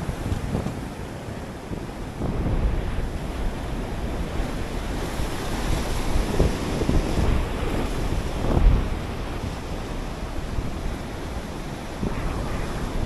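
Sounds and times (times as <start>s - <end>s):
ocean surf washing in: 0.0s - 13.0s
wind buffeting microphone: 0.0s - 13.0s.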